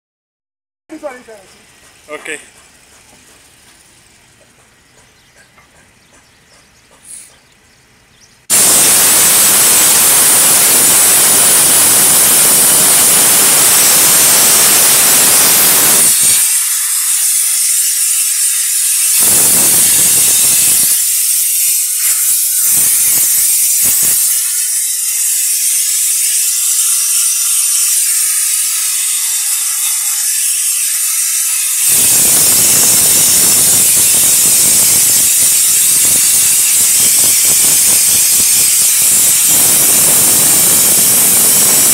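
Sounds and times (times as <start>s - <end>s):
compressed air hissing from blow gun: 7.0s - 7.4s, 8.5s - 41.9s.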